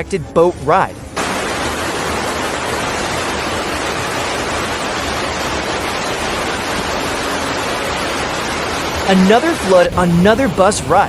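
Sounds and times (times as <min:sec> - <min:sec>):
floodwater rushing: 0:01.2 - 0:11.0.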